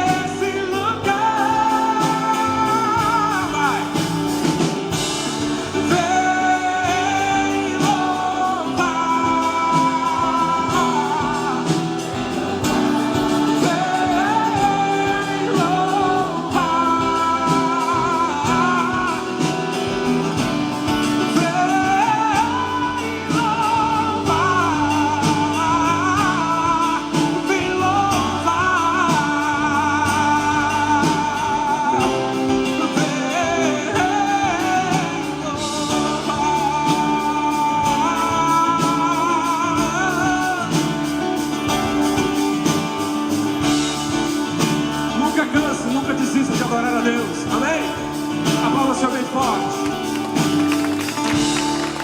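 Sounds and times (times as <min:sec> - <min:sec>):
gospel band with guitar: 0:00.0 - 0:52.0
person singing: 0:00.0 - 0:52.0.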